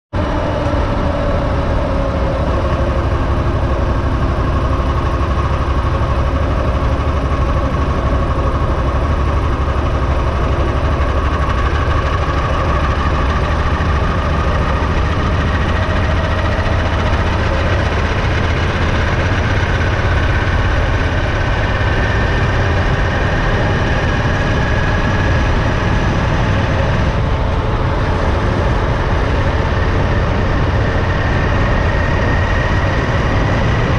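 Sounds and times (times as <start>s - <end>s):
wind and road noise: 0.1s - 33.9s
motorcycle engine cruising: 0.2s - 33.9s.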